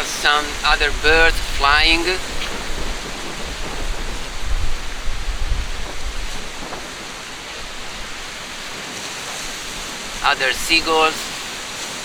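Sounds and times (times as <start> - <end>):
rough sea: 0.0 - 12.0
wind buffeting microphone: 0.0 - 12.0.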